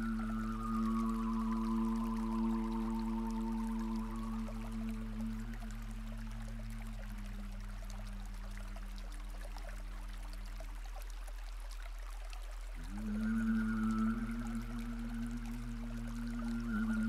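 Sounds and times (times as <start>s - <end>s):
ambient drone music: 0.0s - 10.6s, 12.8s - 17.0s
running water: 0.0s - 17.0s.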